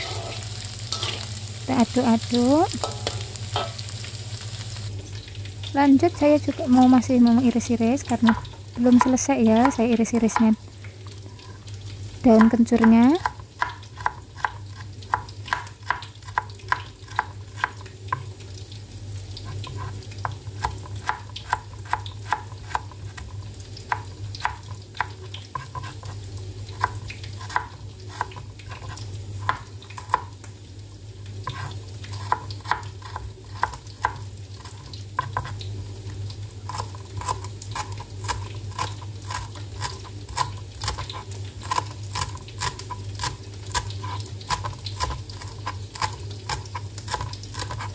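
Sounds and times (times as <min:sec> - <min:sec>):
food sizzling in oil: 0:00.0 - 0:47.9
low steady hum: 0:00.0 - 0:47.9.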